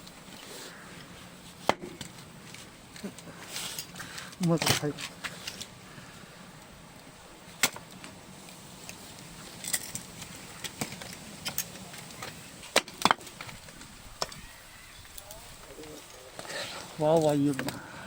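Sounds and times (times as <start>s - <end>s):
bonfire crackling and popping: 0.0s - 18.0s
low hiss of fire: 0.0s - 18.0s.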